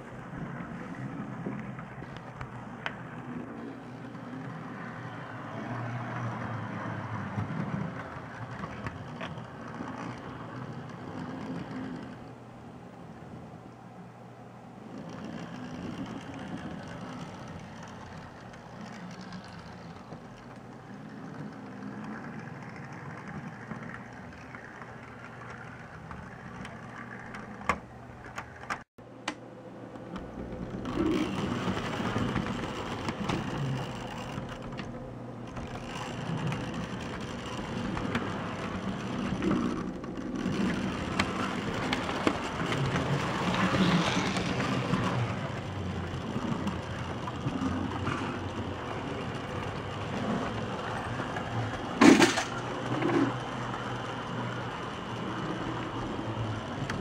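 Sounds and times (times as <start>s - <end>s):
model train wheels clattering: 0.0s - 12.4s, 14.8s - 28.9s, 30.0s - 57.0s.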